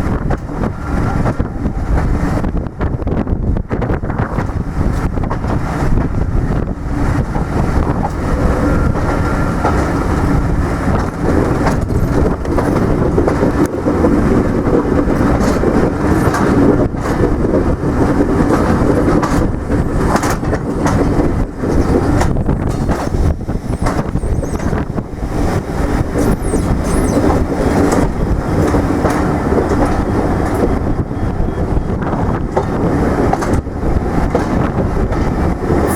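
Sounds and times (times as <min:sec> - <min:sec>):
wheels clicking over rail joints: 0:00.0 - 0:03.0, 0:03.6 - 0:35.9
train rumbling past: 0:00.0 - 0:35.9.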